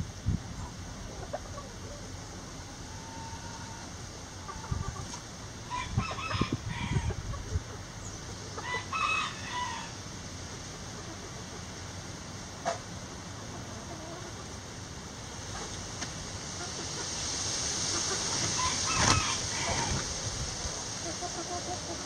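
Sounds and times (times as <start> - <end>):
chickens clucking: 0.5 - 14.7, 15.3 - 22.0.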